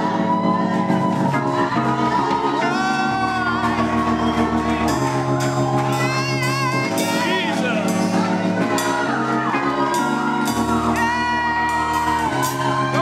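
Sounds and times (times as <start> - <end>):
keyboard chords: 0.0 - 13.0
person singing: 0.0 - 13.0
steady bass: 0.0 - 13.0.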